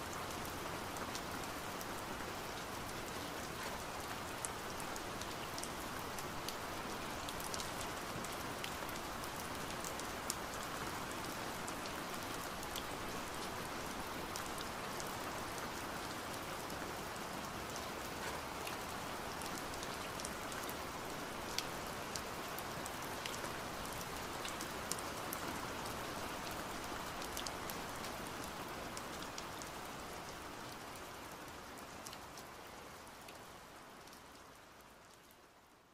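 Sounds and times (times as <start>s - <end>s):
steady rain patter: 0.0s - 35.9s.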